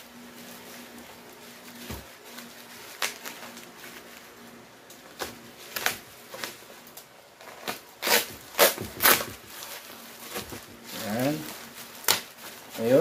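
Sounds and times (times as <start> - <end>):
plastic wrapping crinkling: 0.0 - 13.0
packing tape ripping: 1.7 - 4.3, 4.9 - 13.0.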